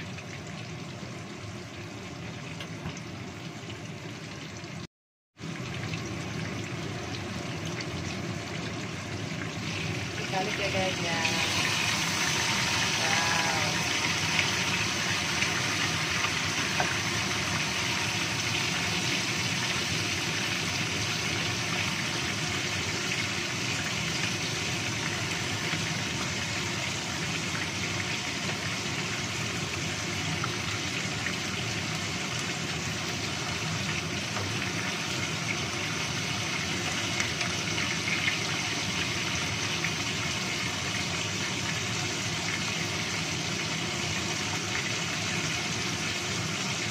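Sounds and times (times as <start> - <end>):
fish sizzling in oil: 0.0 - 46.9.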